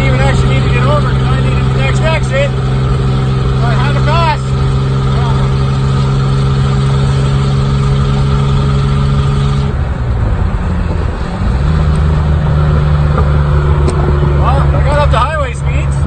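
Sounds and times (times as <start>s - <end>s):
car engine and loud exhaust: 0.0s - 16.0s.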